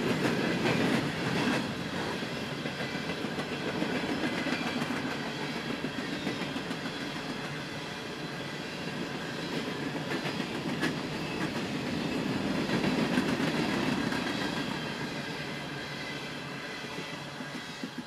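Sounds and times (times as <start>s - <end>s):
freight train wheels clacking: 0.0s - 18.0s.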